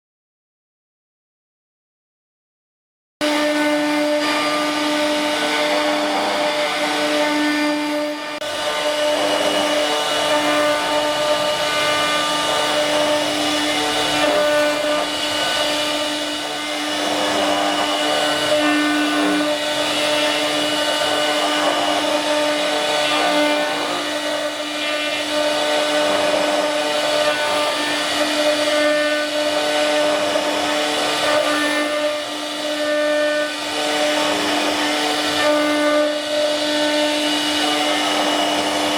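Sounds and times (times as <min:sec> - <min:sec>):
machine spindle motor whine: 0:03.2 - 0:38.9.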